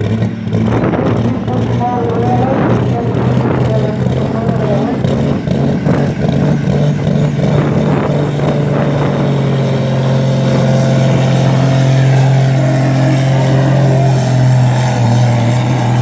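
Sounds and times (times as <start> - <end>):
tractor engine under heavy load: 0.0 - 16.0.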